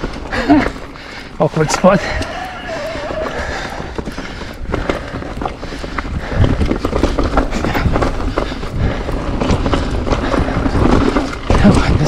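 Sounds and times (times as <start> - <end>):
mountain bike rattling over rocks: 0.0 - 12.0.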